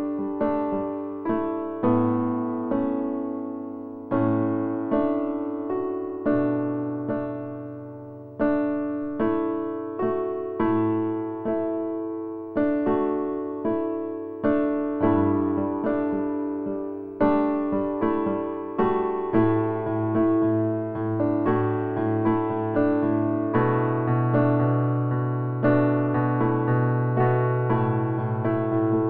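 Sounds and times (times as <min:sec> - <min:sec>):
solo piano melody: 0:00.0 - 0:29.0.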